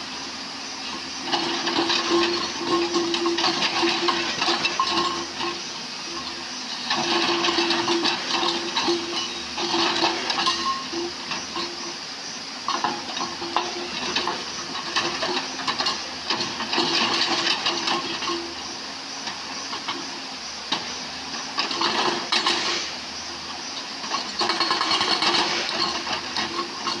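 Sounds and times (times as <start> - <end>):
excavator engine hum: 0.0 - 27.0.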